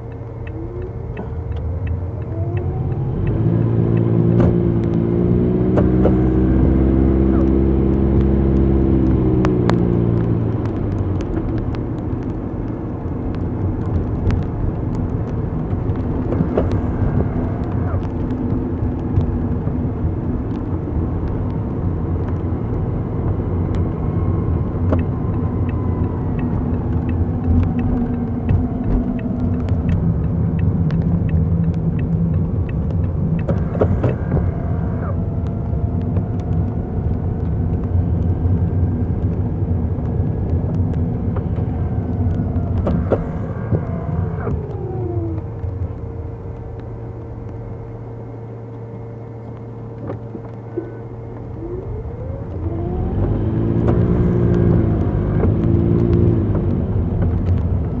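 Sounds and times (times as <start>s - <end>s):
light ticks: 0.0s - 5.0s, 7.4s - 22.5s, 24.8s - 47.6s, 49.4s - 58.0s
car engine hum: 0.0s - 58.0s
road and tyre rumble: 0.0s - 58.0s.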